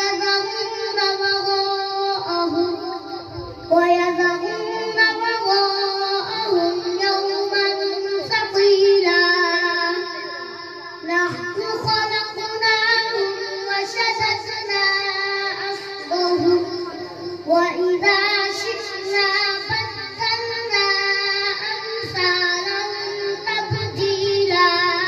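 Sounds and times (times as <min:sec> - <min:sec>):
boy chanting into a microphone: 0:00.0 - 0:25.0.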